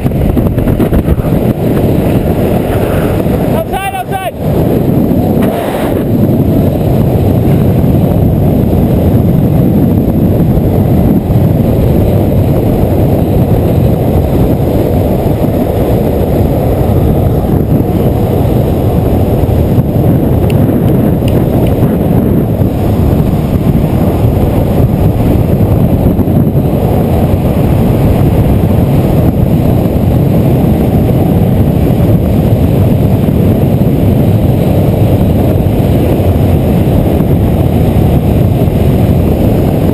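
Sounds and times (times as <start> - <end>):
skateboard wheels rolling on asphalt: 0.0 - 39.9
wind buffeting microphone: 0.0 - 39.9.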